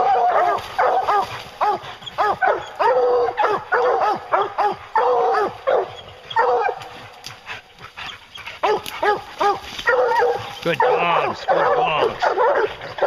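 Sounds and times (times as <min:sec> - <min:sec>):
hounds barking: 0:00.0 - 0:13.0.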